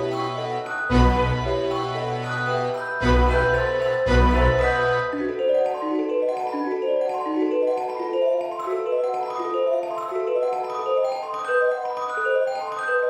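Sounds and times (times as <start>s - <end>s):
light melody music: 0.0s - 13.0s.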